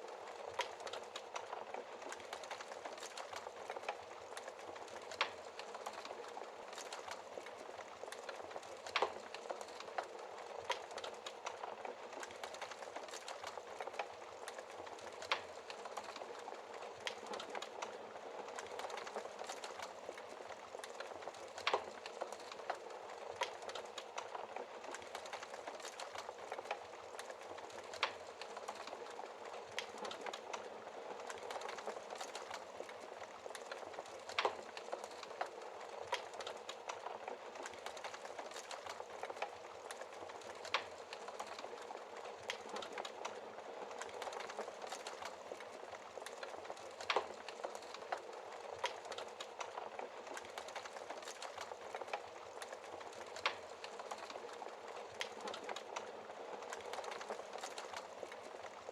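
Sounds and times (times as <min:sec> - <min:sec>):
wood fire crackling: 0:00.0 - 0:58.9
fire popping: 0:00.1 - 0:58.8.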